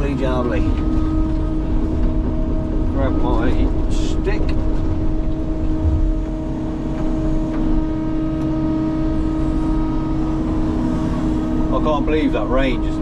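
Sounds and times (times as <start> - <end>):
machine engine humming: 0.0 - 13.0.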